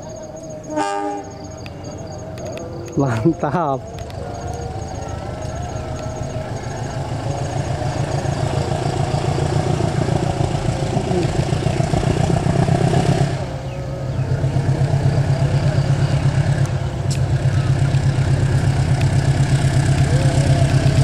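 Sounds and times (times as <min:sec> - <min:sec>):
locomotive engine running hard: 0:00.0 - 0:21.0.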